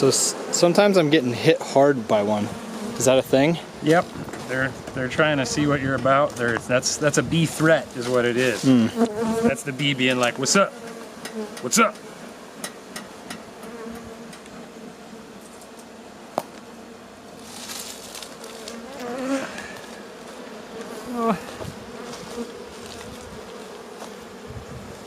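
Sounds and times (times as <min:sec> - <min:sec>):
honeybees buzzing: 0:00.0 - 0:25.0
single bee buzzing past: 0:00.0 - 0:25.0.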